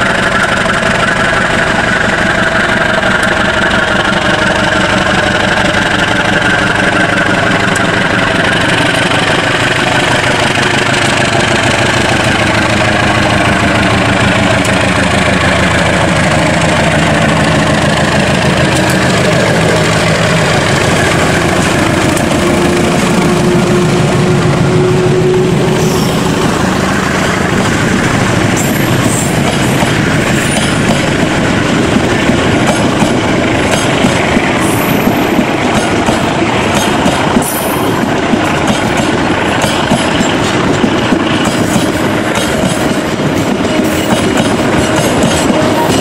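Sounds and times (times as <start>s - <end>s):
diesel locomotive engine: 0.0s - 46.0s.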